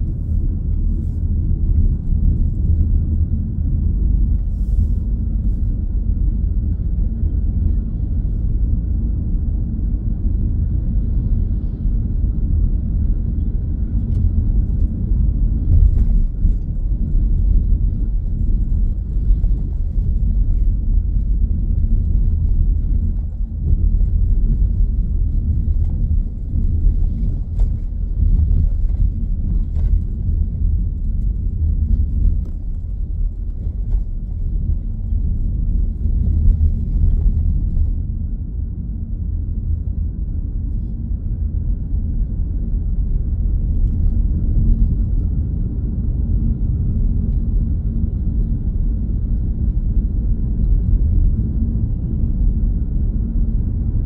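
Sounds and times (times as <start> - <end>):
road and engine rumble in car cabin: 0.0 - 54.0.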